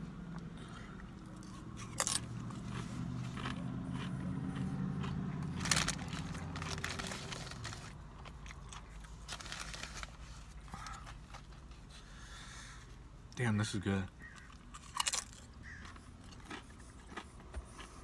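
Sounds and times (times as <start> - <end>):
person chewing crunchy chips: 0.4 - 12.3, 14.2 - 18.0.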